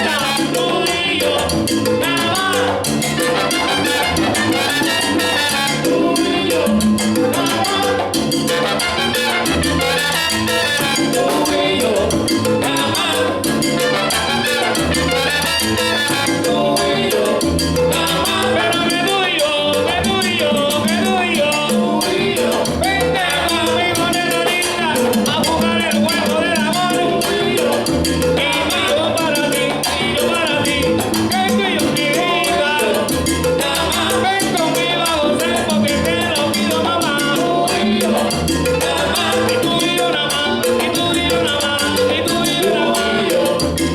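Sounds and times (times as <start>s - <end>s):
salsa band playing: 0.0s - 43.9s.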